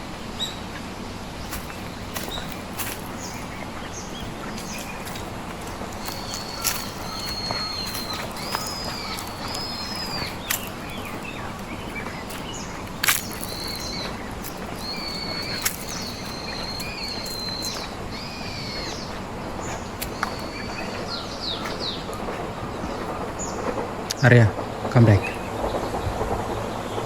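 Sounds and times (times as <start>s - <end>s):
birds whistling: 0.0s - 23.9s
outdoor background noise: 0.0s - 27.0s.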